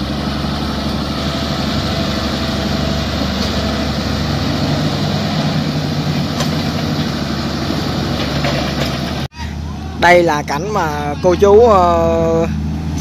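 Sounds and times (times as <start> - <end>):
excavator working: 0.0 - 13.0
tractor engine idling: 0.0 - 13.0.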